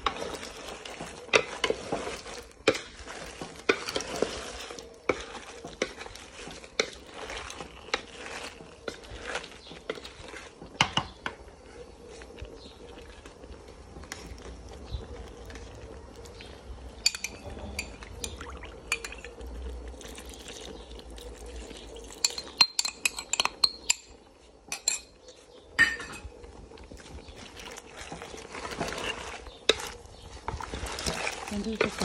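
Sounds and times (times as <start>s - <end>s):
wooden spoon stirring shells: 0.0s - 32.0s.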